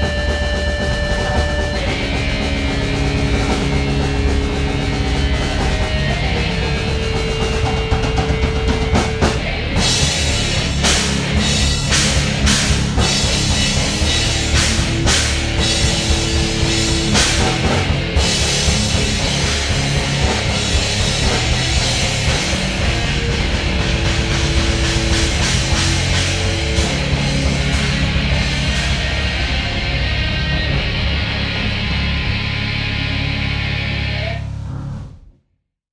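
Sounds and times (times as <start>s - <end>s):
rock band jamming: 0.0s - 34.6s.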